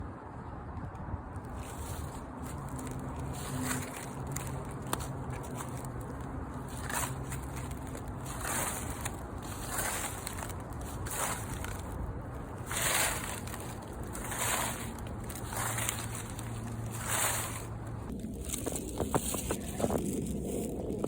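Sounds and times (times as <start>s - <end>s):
footsteps crunching dry leaves: 1.4s - 21.0s.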